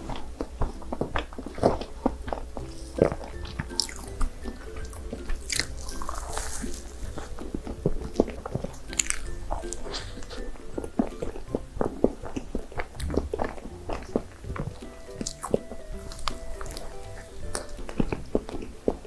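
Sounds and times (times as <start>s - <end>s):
chewing and biting cake: 0.0s - 19.0s
soft background music: 0.0s - 19.0s.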